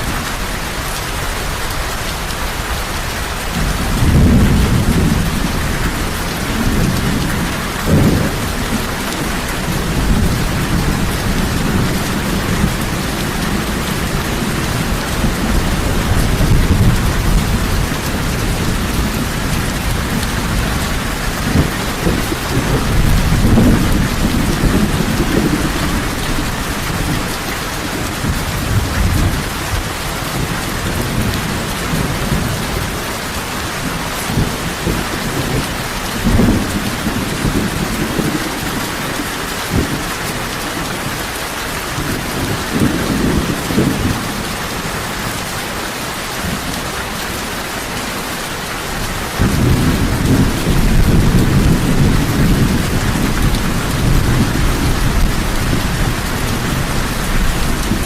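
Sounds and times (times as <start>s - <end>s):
heavy rain falling: 0.0s - 58.0s
thunder rumbling: 3.4s - 41.1s, 41.9s - 45.5s, 48.8s - 58.0s.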